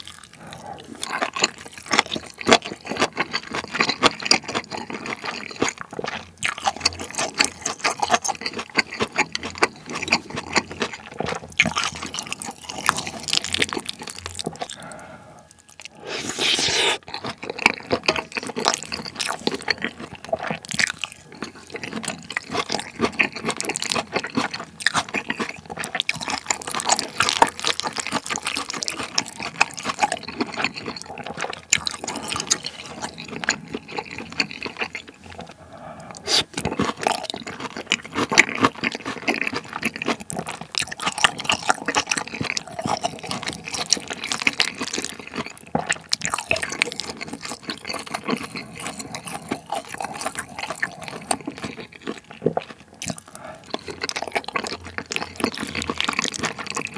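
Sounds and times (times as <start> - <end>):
wet sticky chewing: 0.0 - 56.9.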